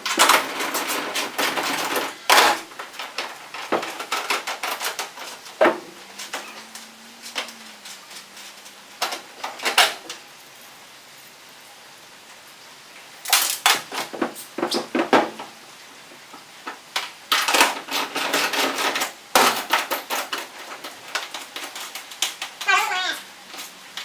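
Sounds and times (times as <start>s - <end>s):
tools and metal parts clattering: 0.0s - 10.2s, 13.2s - 15.5s, 16.6s - 24.0s.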